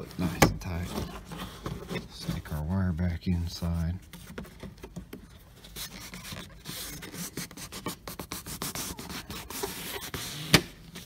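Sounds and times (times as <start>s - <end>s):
rubbing and scratching on rubber: 0.0s - 11.0s.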